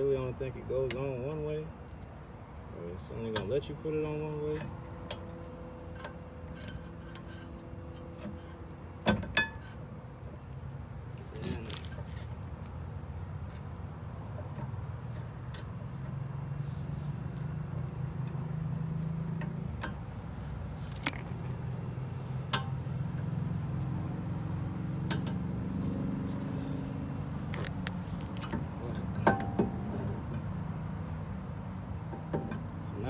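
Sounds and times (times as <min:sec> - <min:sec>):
low vehicle hum: 0:00.0 - 0:33.0.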